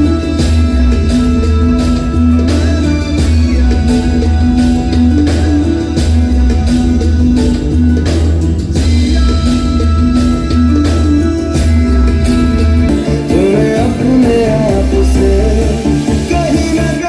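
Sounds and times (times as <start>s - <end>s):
person singing: 0.0s - 17.0s
song with guitar and strong bass: 0.0s - 17.0s.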